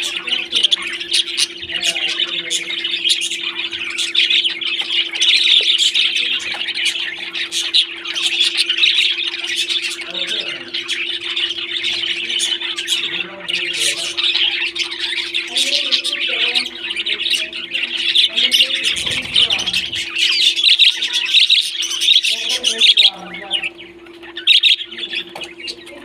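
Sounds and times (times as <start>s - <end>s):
parrots chattering and calling: 0.0s - 26.0s
steady low hum: 0.0s - 26.0s.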